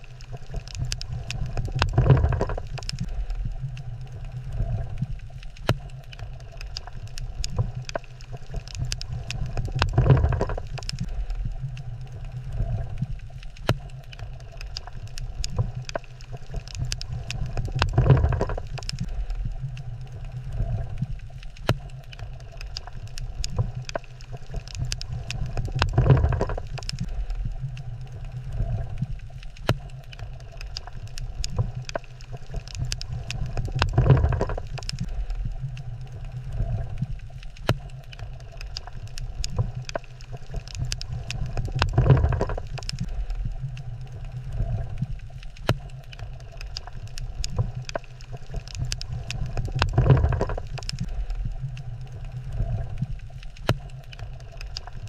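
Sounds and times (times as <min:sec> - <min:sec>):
low underwater rumble: 0:00.0 - 0:55.0
sharp underwater clicks: 0:00.0 - 0:55.0.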